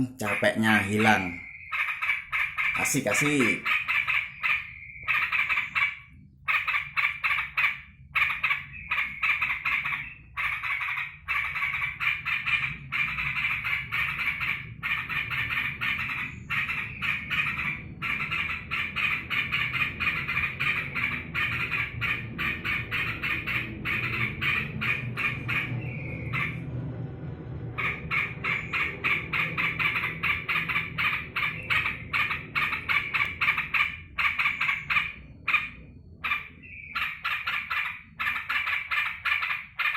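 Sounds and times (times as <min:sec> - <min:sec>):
bird chattering call: 0:00.0 - 0:26.6, 0:27.8 - 0:39.9.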